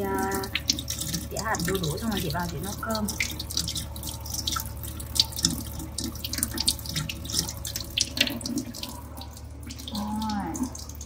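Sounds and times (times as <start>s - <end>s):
tap water running into sink: 0.0s - 11.0s
water splashing: 0.0s - 11.0s.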